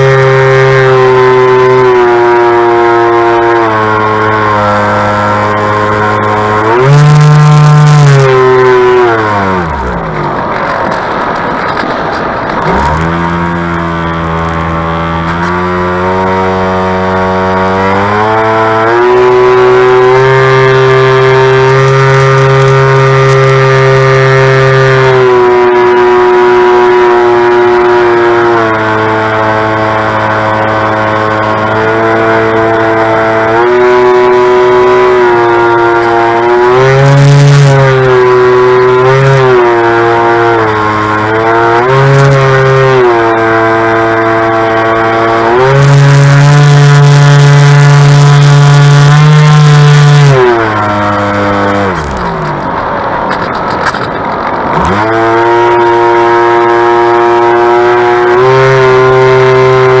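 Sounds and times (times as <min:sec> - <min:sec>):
electric motor and propeller whining: 0:00.0 - 1:00.0.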